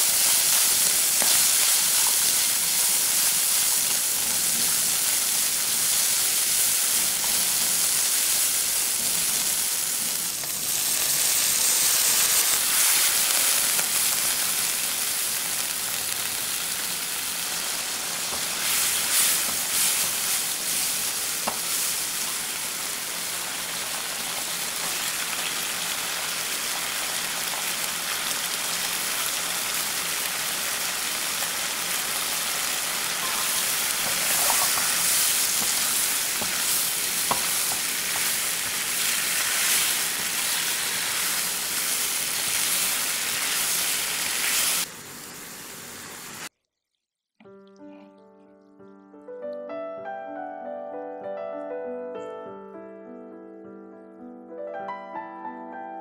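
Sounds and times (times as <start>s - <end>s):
food sizzling in a frying pan: 0.0s - 47.2s.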